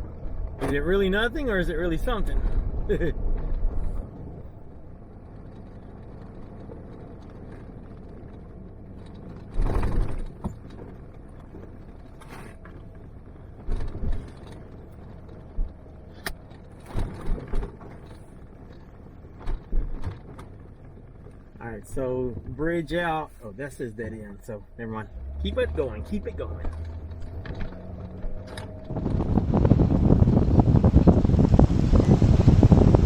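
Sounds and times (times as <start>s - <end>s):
vehicle thumps and rattles: 0.0s - 23.4s, 26.1s - 33.0s
off-road vehicle engine and tyres: 0.0s - 33.0s.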